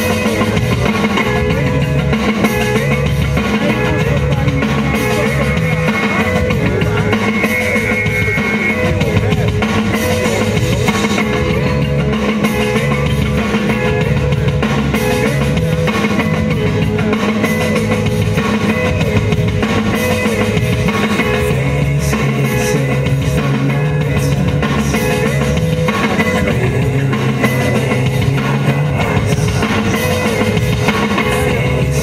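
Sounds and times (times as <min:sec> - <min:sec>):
rock music: 0:00.0 - 0:32.0.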